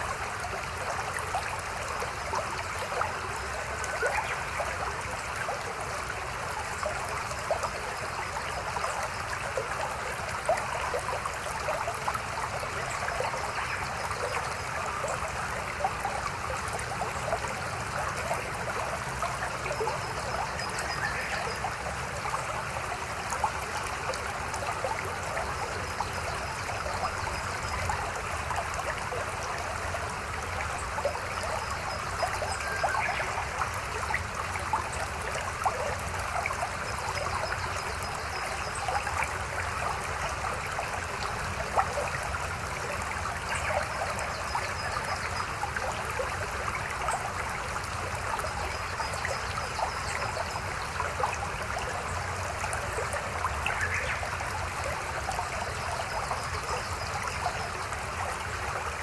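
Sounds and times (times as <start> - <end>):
river babbling: 0.0 - 59.0.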